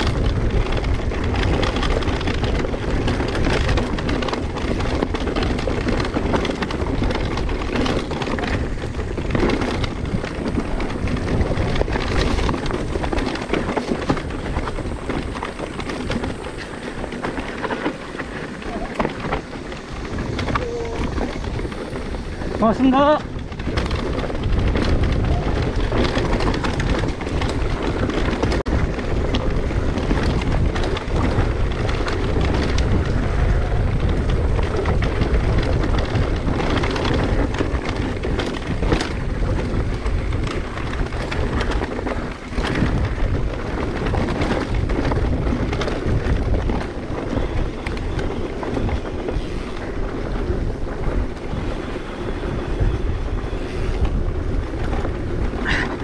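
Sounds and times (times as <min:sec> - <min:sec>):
bike rattling over rough ground: 0:00.0 - 0:56.0
wind on microphone: 0:00.0 - 0:56.0.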